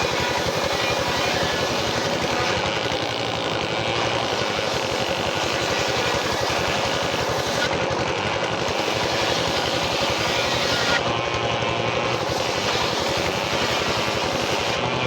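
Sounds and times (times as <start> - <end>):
sawmill machine running: 0.0 - 15.0.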